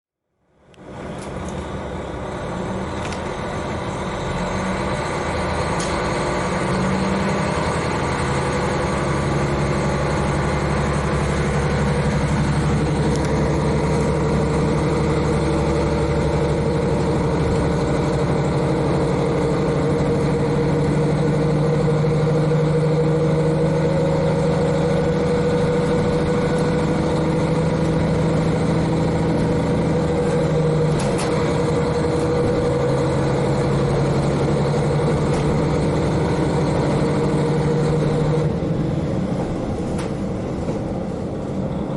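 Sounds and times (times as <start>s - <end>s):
railcar diesel engine: 0.3s - 41.9s.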